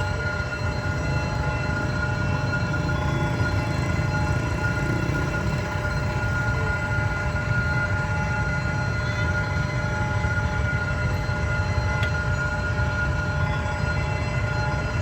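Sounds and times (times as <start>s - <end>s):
train rolling past: 0.0s - 15.0s.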